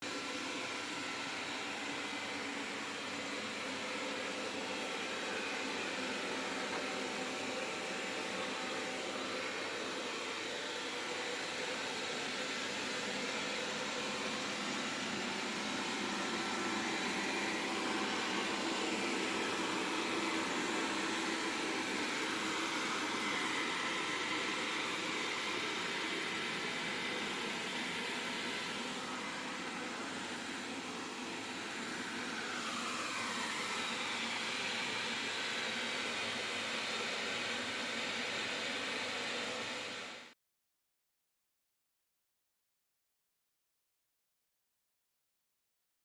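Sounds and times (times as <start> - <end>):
vacuum cleaner running: 0.0 - 40.3.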